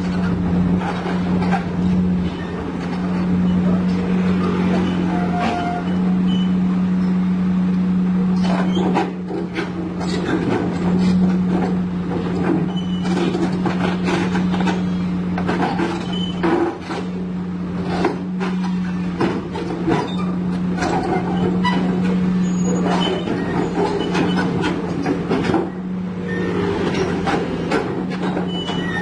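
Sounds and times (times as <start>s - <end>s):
steel tracks clanking on deck: 0.0s - 7.2s, 8.2s - 17.2s, 17.8s - 29.0s
diesel excavator engine running: 0.0s - 29.0s.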